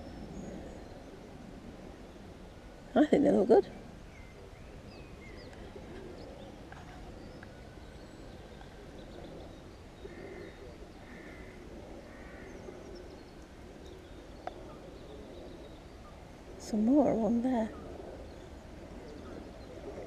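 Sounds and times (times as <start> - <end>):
wild birds chirping: 0.0 - 20.0.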